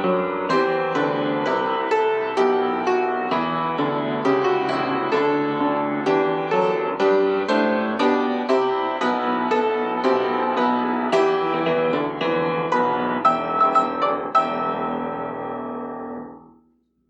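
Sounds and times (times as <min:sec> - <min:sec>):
lively piano playing: 0:00.0 - 0:16.6.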